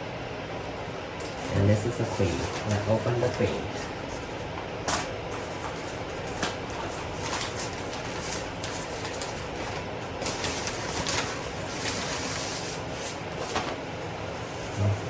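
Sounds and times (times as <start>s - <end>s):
packaging rustling and crinkling: 1.2s - 13.8s.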